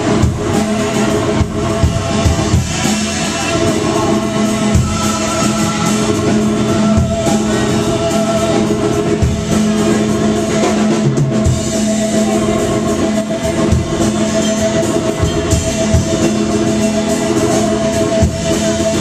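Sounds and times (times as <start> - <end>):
live band playing amplified music: 0.0 - 19.0.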